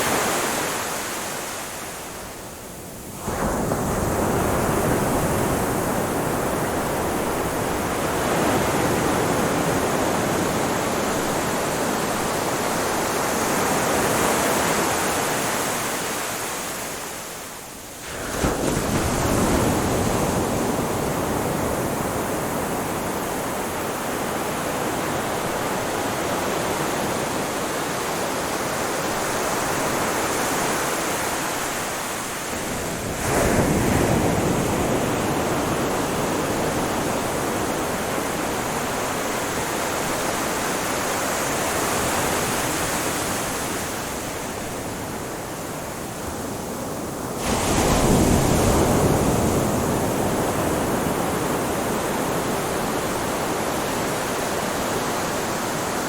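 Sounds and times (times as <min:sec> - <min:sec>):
surf washing: 0:00.0 - 0:56.0
waves breaking: 0:03.2 - 0:17.2, 0:18.0 - 0:46.0, 0:47.0 - 0:56.0.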